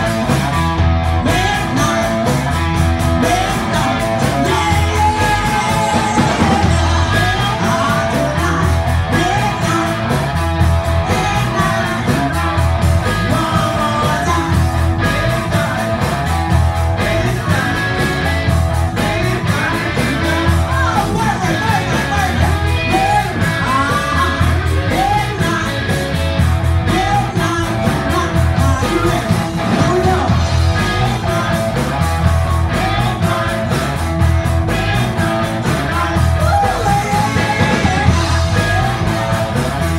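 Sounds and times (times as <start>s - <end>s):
drum kit beat: 0.0s - 39.9s
electric guitar: 0.0s - 39.9s
person singing into microphone: 1.2s - 2.4s, 3.2s - 10.3s, 11.0s - 16.2s, 18.9s - 26.1s, 26.8s - 32.0s, 32.7s - 39.7s.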